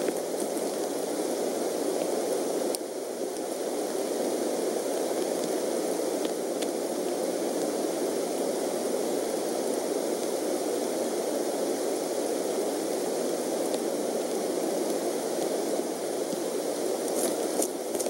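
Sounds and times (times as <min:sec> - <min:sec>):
steady rain on trees: 0:00.0 - 0:18.0.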